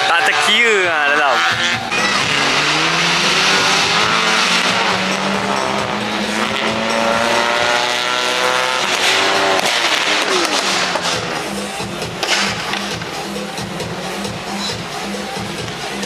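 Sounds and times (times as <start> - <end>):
race car engines: 0.0 - 16.0
tyre and road noise: 0.0 - 16.0.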